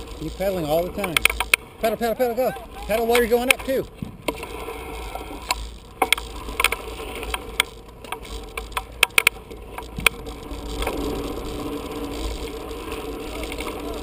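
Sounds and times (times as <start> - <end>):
bicycle clicks and rattles: 0.0 - 14.0
low wind rumble: 0.0 - 14.0.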